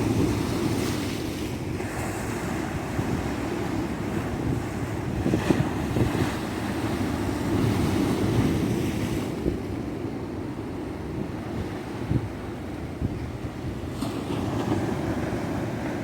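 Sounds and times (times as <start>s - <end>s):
wind buffeting microphone: 0.0s - 15.8s.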